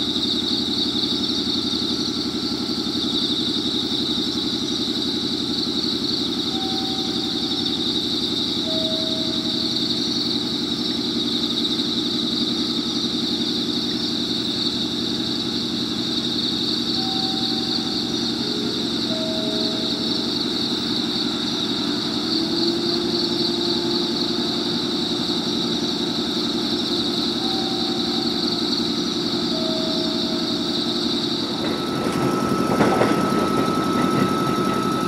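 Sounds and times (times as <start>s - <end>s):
air compressor chugging: 0.0s - 35.0s.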